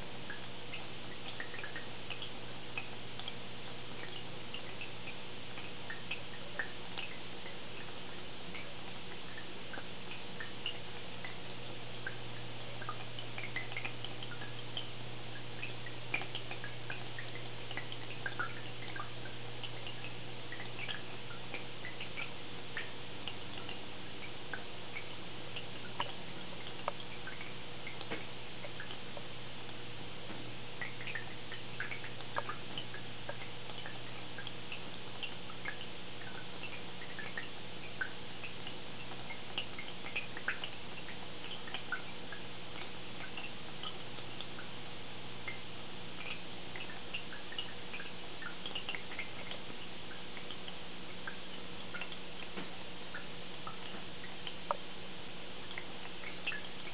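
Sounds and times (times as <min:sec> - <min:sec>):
aquarium filter humming: 0:00.0 - 0:56.9
water drips and bubble pops: 0:00.2 - 0:44.8, 0:45.4 - 0:54.9, 0:55.6 - 0:56.9.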